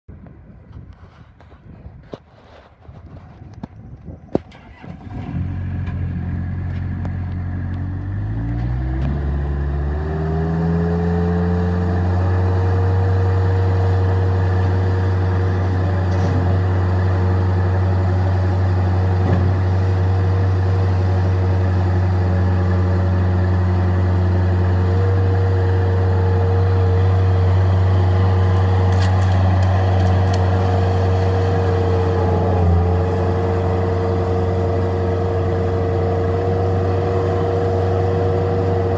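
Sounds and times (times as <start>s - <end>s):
diesel engine starting and running: 4.2s - 38.9s.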